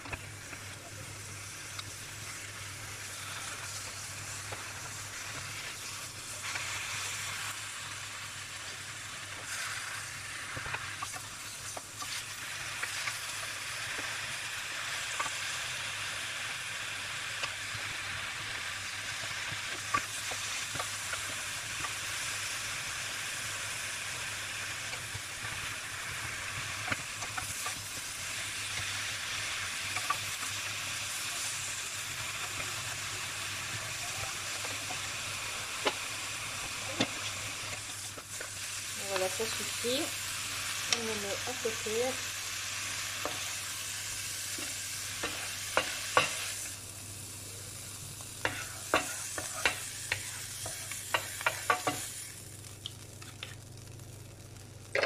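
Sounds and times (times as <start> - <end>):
leaves sizzling in frying pan: 0.0 - 55.0.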